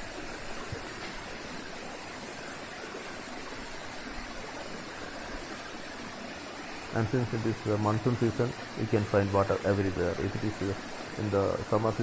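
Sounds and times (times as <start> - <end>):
waterfall pouring over rock: 0.0 - 12.0.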